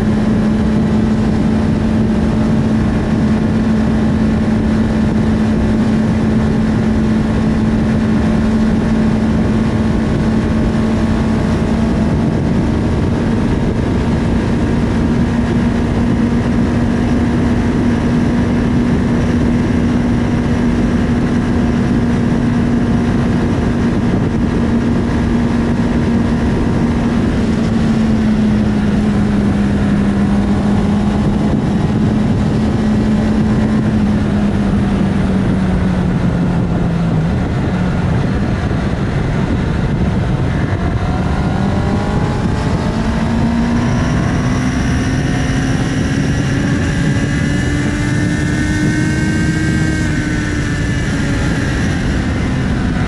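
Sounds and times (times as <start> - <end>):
heavy wind rush: 0.0 - 53.0
motorcycle engine at high speed: 0.0 - 53.0.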